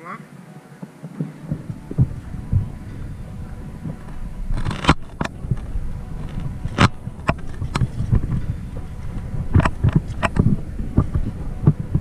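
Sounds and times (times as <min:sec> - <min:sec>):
thumping footsteps: 0:00.8 - 0:12.0
rumbling handling noise: 0:01.0 - 0:12.0.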